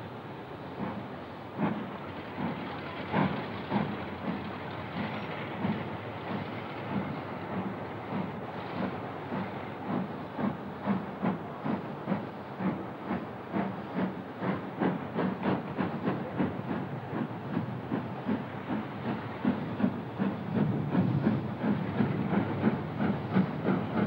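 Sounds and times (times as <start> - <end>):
steam locomotive chuffing: 0.0 - 24.0.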